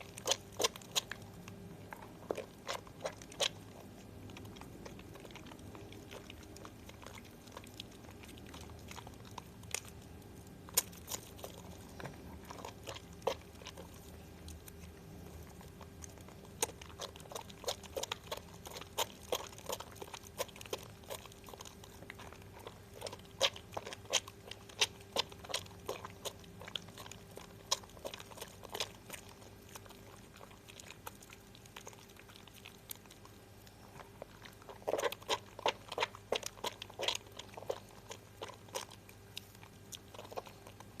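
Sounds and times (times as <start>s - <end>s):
bar soap squishing and crackling: 0.0s - 41.0s
faint steady hum: 0.0s - 41.0s.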